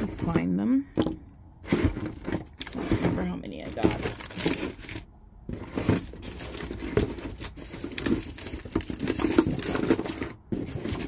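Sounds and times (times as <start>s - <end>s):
packaging rustling and crinkling: 1.7s - 11.0s.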